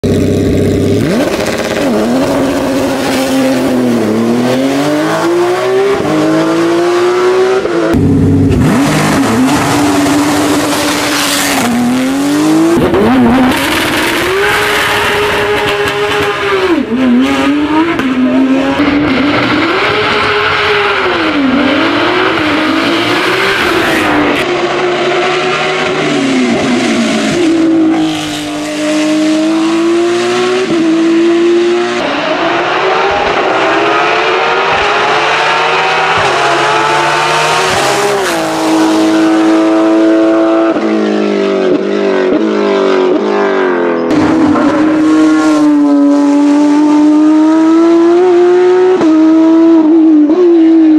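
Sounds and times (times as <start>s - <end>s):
racing engine revving: 0.0s - 50.9s.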